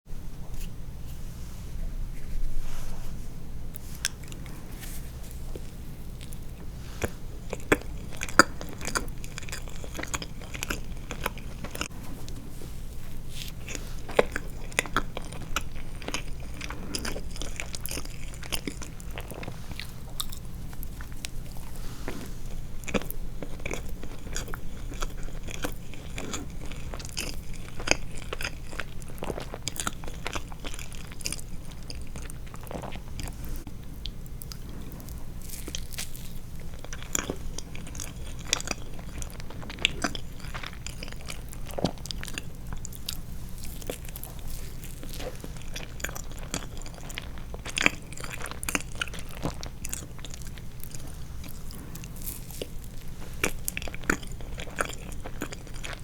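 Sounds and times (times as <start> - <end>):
steady low hum: 0.1 - 56.0
wet chewing: 3.7 - 56.0.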